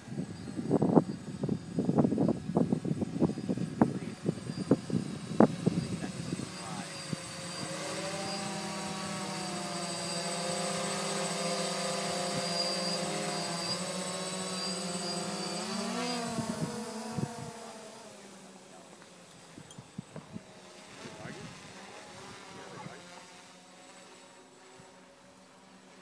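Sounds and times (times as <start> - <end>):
drone propellers buzzing: 0.0 - 26.0.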